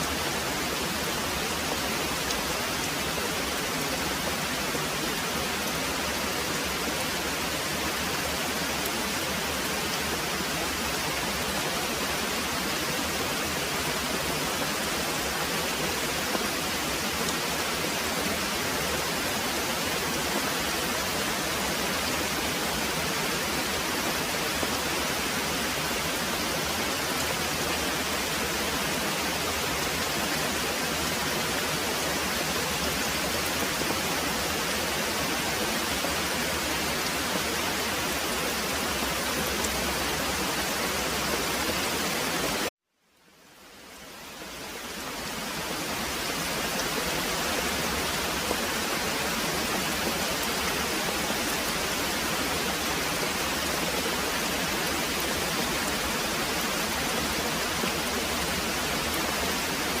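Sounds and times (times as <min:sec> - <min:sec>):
heavy rain pouring: 0:00.0 - 0:42.7, 0:43.5 - 1:00.0.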